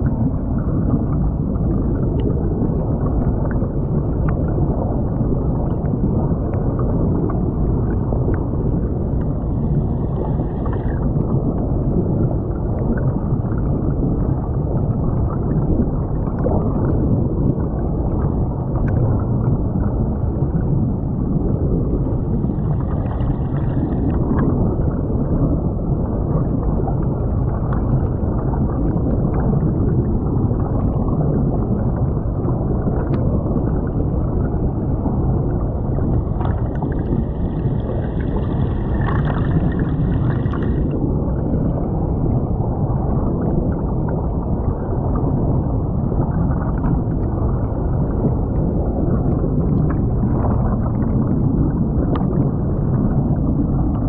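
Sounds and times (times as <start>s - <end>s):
muffled underwater creek rushing: 0.0s - 54.0s.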